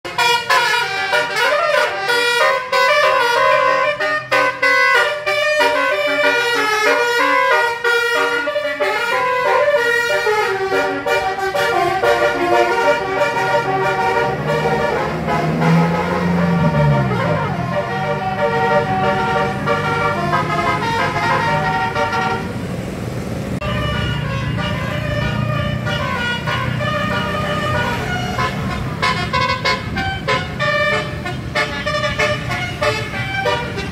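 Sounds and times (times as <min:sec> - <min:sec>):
musical bus horn: 0:00.0 - 0:22.6, 0:23.6 - 0:33.9
engine running: 0:00.1 - 0:33.9.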